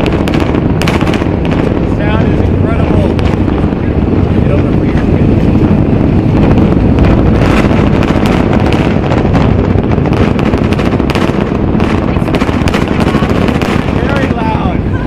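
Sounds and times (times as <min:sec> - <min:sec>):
rocket engines rumbling and crackling: 0:00.0 - 0:15.0.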